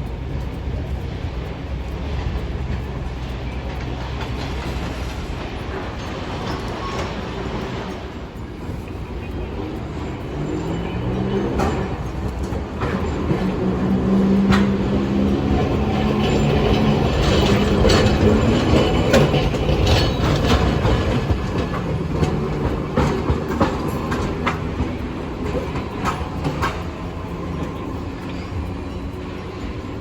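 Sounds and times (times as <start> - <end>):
streetcar motor hum: 0.0 - 30.0
wheels clicking over rail joints: 0.0 - 30.0.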